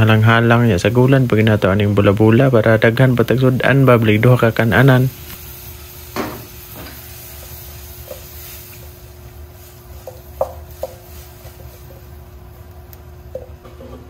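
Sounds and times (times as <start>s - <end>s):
gas burner hum: 0.0s - 14.0s.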